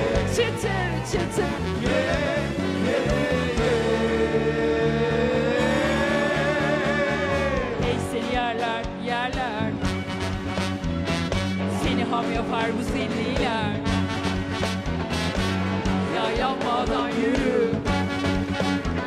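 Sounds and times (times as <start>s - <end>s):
live band playing pop: 0.0s - 19.0s.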